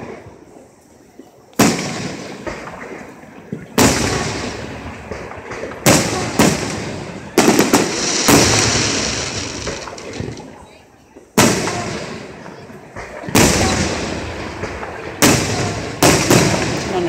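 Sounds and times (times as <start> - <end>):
fireworks booming: 0.0 - 0.6, 1.6 - 17.0
fireworks crackles: 0.0 - 17.0.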